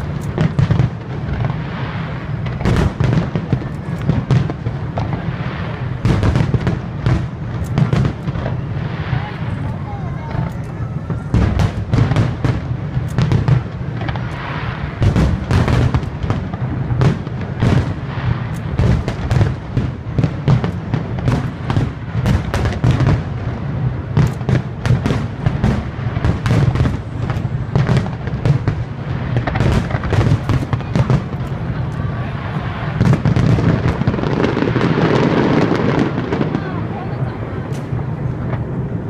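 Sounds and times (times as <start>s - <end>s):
continuous low rumble: 0.0s - 39.0s
fireworks bursting with sharp bangs: 0.0s - 39.0s.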